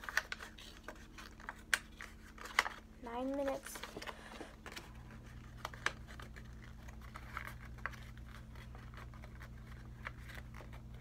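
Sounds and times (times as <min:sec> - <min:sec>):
paper crinkling: 0:00.0 - 0:11.0
steady low hum: 0:00.0 - 0:11.0.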